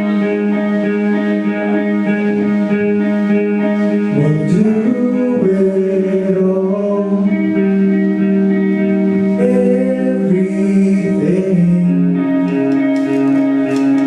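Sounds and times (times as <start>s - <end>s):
guitar with sliding notes: 0.0s - 14.0s.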